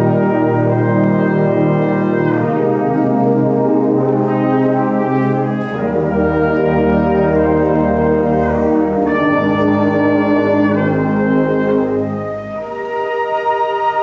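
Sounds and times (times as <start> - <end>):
concert band playing chords: 0.0 - 12.7.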